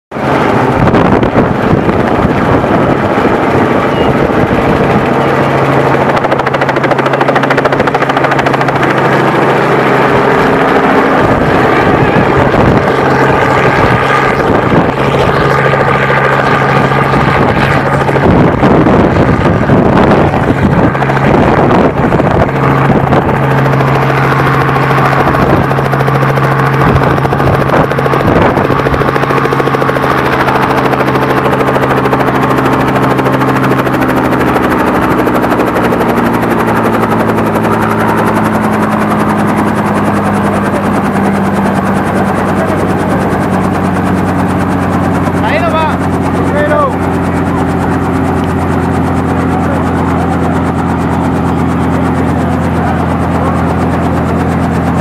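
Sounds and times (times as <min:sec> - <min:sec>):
helicopter rotor and engine: 0:00.1 - 0:55.0.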